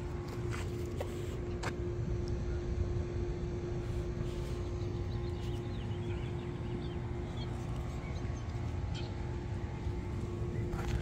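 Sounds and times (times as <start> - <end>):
constant mid-pitched hum: 0.0 - 11.0
low outdoor rumble: 0.0 - 11.0.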